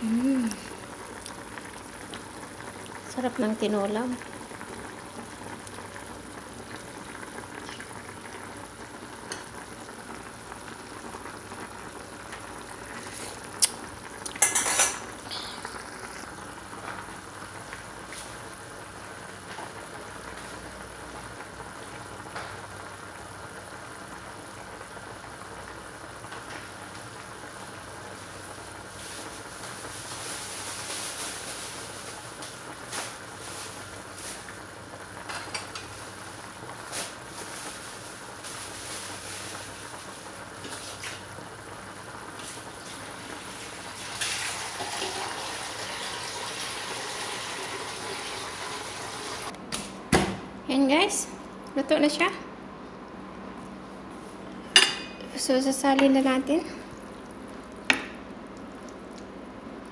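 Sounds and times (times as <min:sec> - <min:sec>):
soup boiling in pot: 0:00.0 - 0:49.6, 0:52.7 - 0:59.9.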